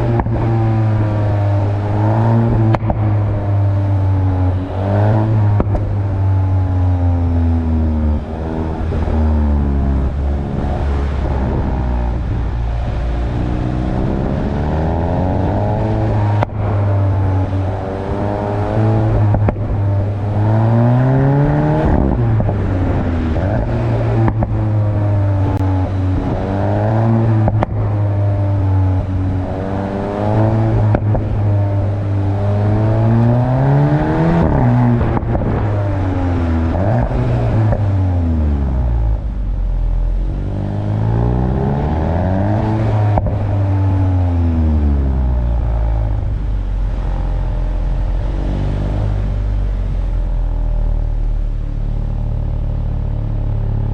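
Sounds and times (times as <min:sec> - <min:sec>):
car engine revving through gears: 0:00.0 - 0:39.4, 0:40.1 - 0:51.3.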